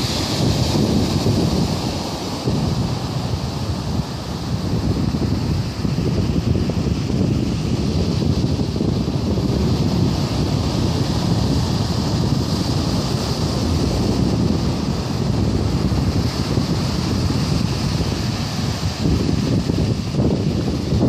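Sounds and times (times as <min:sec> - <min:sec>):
ocean surf washing on shore: 0:00.0 - 0:21.0
wind rumbling on microphone: 0:00.0 - 0:21.0.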